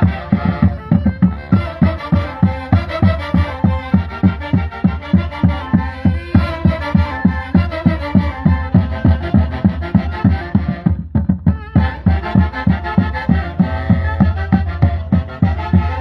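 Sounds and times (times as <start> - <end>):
bass drum beating: 0.0 - 16.0
saxophones playing folk dance tune: 0.0 - 16.0.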